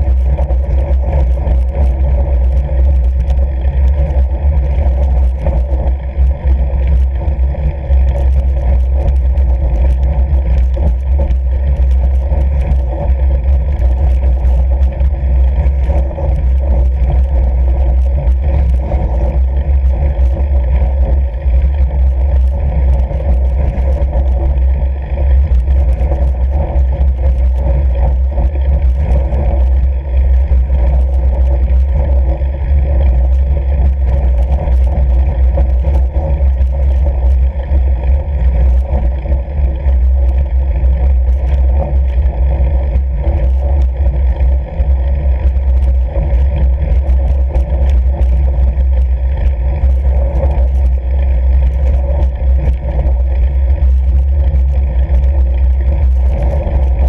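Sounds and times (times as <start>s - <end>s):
bike tyres rolling over snowy ice: 0.0s - 57.0s
faint crunching ticks: 0.0s - 57.0s
wind rumble on microphone: 0.0s - 57.0s.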